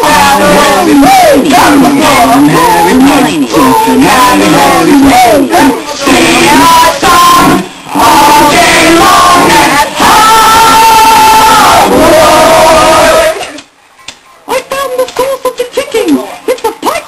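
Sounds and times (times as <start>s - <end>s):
voices singing together: 0.0s - 13.7s.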